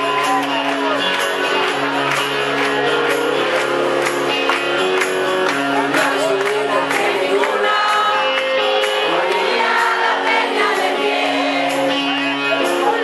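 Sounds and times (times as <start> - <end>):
bass guitar: 0.0 - 13.0
guitar: 0.0 - 13.0.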